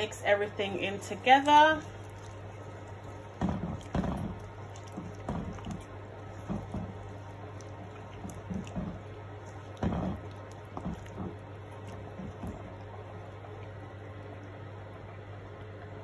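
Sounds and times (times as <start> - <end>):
steady low hum: 0.0 - 16.0
spoon stirring wet food in pot: 0.7 - 15.0.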